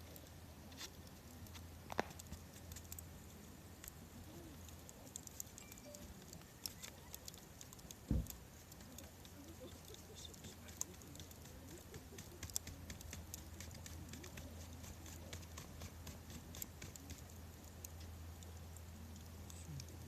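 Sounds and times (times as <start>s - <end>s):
campfire crackling: 0.0s - 20.0s
faint low hum: 0.0s - 20.0s.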